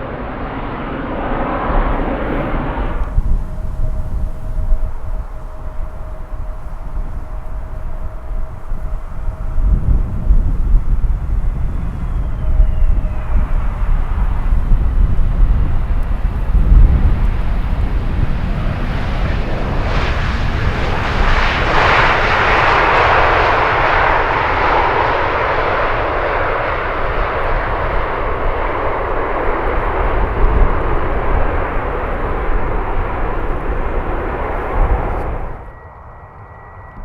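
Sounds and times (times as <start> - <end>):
jet airliner passing: 0.0 - 37.0.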